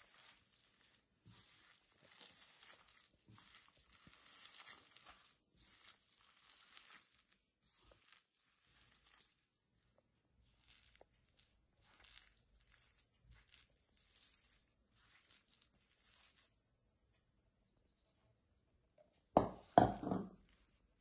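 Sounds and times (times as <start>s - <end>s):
hands kneading dough: 0.0s - 21.0s.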